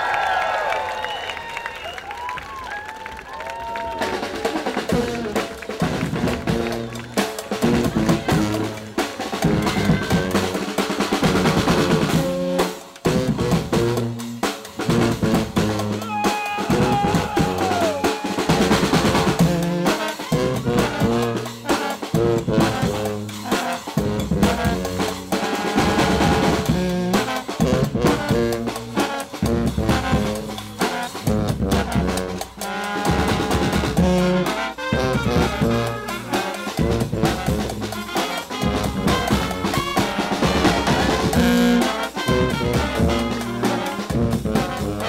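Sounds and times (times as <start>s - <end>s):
brass band playing: 3.9s - 45.0s.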